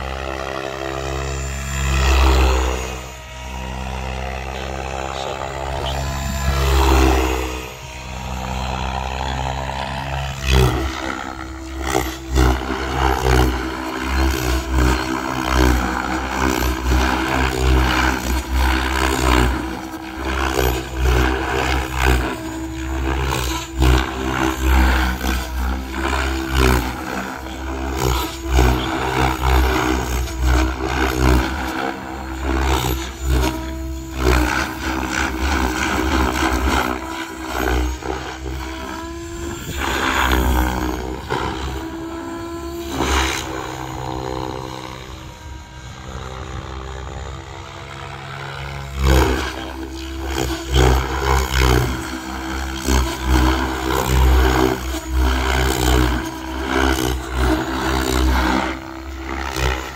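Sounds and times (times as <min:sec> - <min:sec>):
rc helicopter motor and rotor whining: 0:00.0 - 0:59.9.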